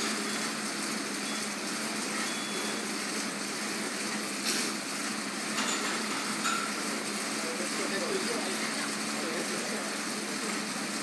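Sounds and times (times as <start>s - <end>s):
exercise bike fan whirring: 0.0s - 11.0s.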